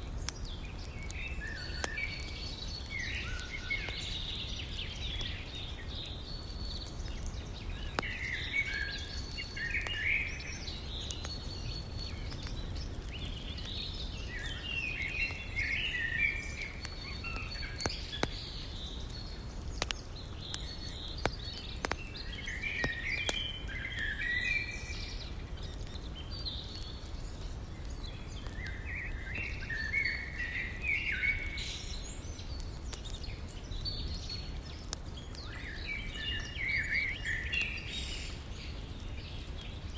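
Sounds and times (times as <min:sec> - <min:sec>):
wood fire crackling and popping: 0:00.0 - 0:39.9
songbird chirping: 0:00.3 - 0:39.8.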